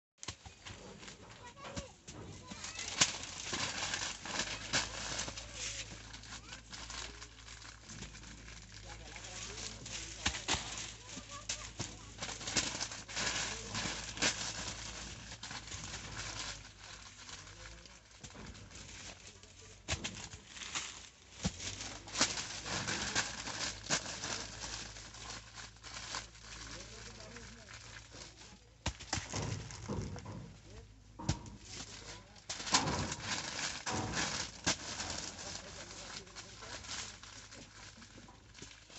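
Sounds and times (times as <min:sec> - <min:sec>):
newspaper rustling and crackling: 0:00.2 - 0:38.9.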